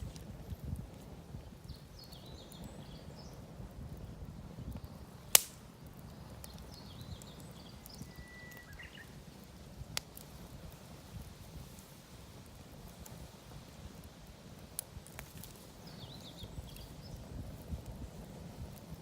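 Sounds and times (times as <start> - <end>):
campfire rumble: 0.0 - 19.0
wood popping in fire: 0.0 - 19.0.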